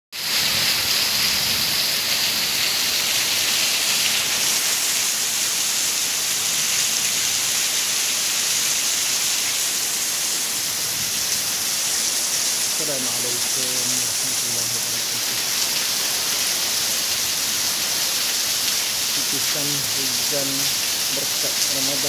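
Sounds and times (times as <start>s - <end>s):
heavy rain pouring: 0.2s - 22.0s.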